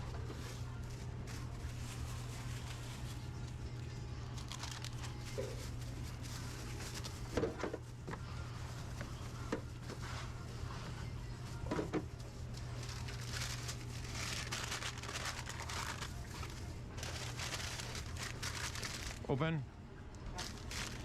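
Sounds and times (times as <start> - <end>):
kitchen equipment hum: 0.0 - 21.0.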